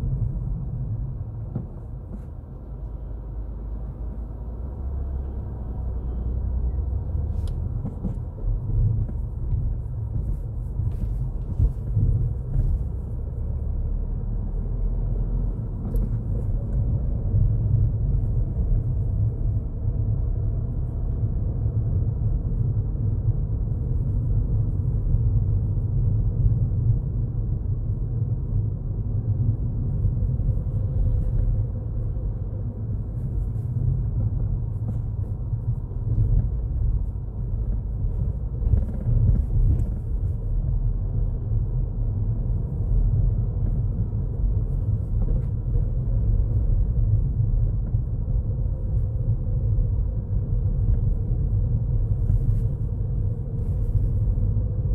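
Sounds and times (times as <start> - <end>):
car engine rumble: 0.0 - 54.9
tyres on the road: 0.0 - 54.9.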